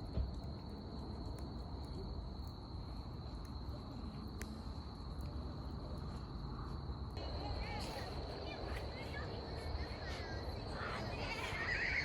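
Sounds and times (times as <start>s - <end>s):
crickets chirring: 0.1s - 12.0s.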